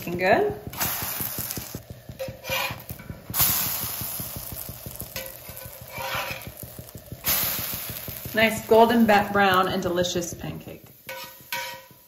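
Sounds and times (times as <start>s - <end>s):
batter sizzling in skillet: 0.0s - 12.0s
metal spatula scraping: 0.6s - 3.8s, 4.4s - 12.0s.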